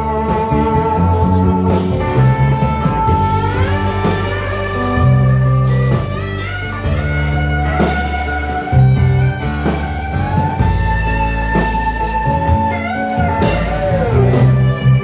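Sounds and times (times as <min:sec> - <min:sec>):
bass guitar: 0:00.0 - 0:15.0
drums: 0:00.0 - 0:15.0
electric slide guitar solo: 0:00.0 - 0:15.0.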